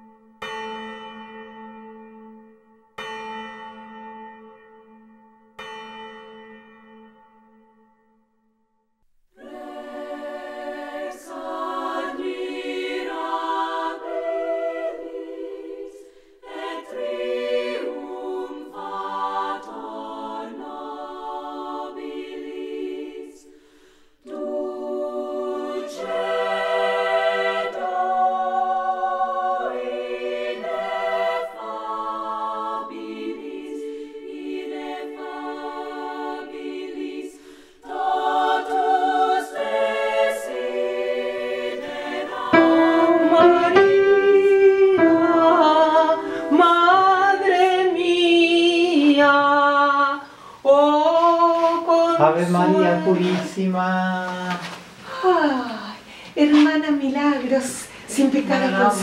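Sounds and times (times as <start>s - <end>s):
choir singing unaccompanied: 9.4s - 55.8s, 56.4s - 59.0s.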